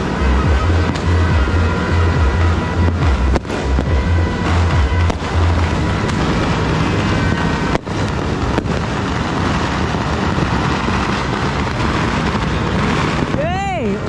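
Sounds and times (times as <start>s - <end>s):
firecrackers and fireworks crackling: 0.0s - 14.0s.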